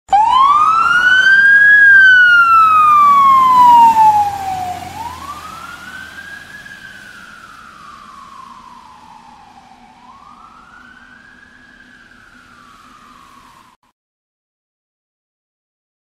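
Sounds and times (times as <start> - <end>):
fire engine siren wailing: 0.1 - 13.8.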